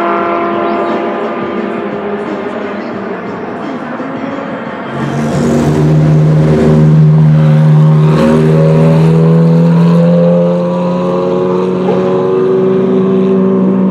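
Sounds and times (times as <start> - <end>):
race car engine at low revs: 0.0 - 13.9.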